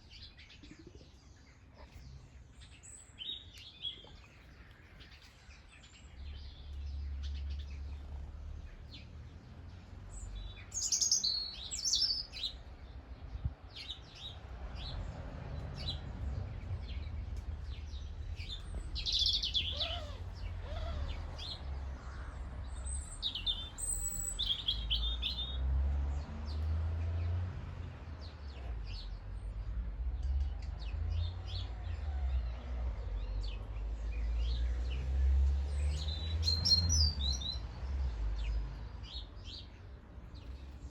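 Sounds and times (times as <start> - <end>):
small birds chirping: 0.0 - 32.1, 33.1 - 40.9.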